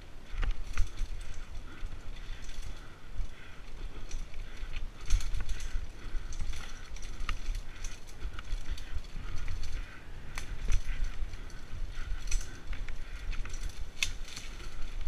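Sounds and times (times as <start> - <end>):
bike chain and frame rattling: 0.0 - 15.0.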